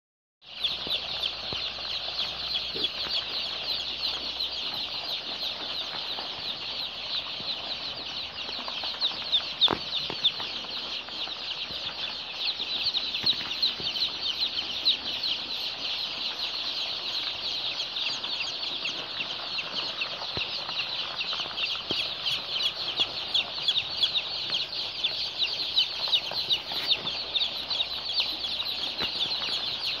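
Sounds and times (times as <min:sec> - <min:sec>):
chicks peeping: 0:00.4 - 0:30.0.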